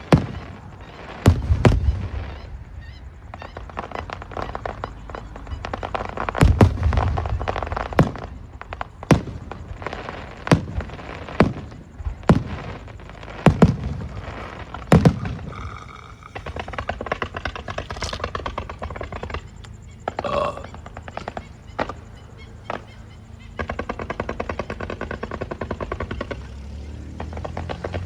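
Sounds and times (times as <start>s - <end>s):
fireworks bangs: 0.0s - 28.0s
fireworks crackling: 0.0s - 28.0s.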